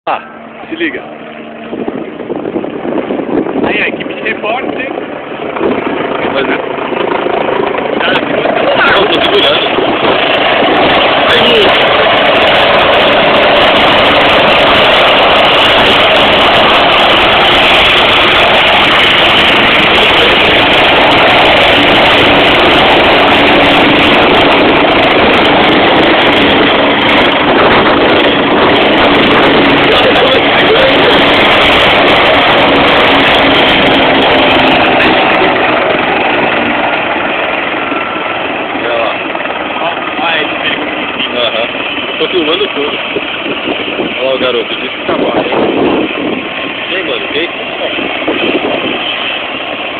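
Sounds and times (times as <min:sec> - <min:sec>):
helicopter rotor and engine: 0:00.0 - 0:49.9.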